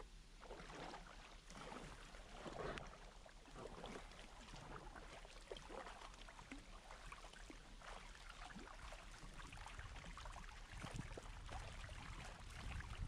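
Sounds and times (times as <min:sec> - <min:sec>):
paddle splashing in water: 0:00.4 - 0:13.0.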